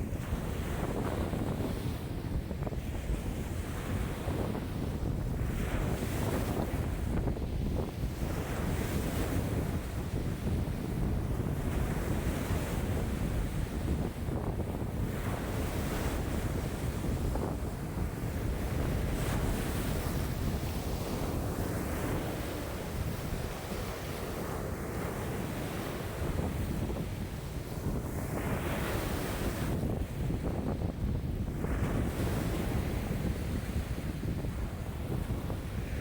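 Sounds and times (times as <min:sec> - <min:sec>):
waves breaking on shore: 0:00.0 - 0:36.0
wind buffeting microphone: 0:00.0 - 0:36.0.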